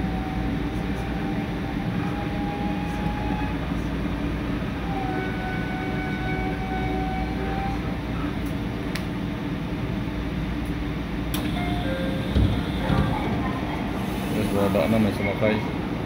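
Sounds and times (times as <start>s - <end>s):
train interior rumble and hum: 0.0s - 16.0s.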